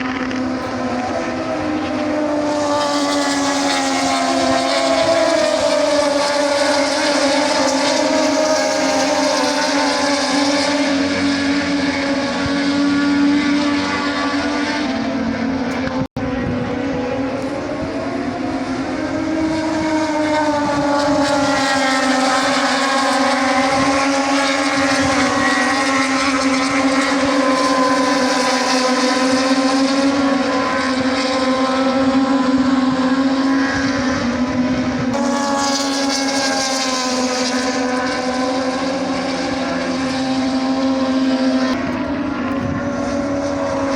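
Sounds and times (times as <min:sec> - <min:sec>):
loud engine drone: 0:00.0 - 0:43.9.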